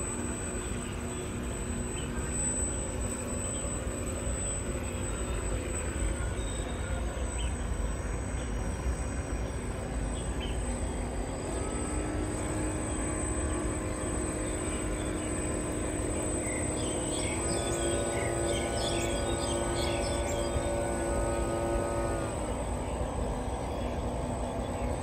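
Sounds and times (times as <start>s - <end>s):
birds chirping: 0.0s - 25.0s
electric motors whining: 0.0s - 25.0s.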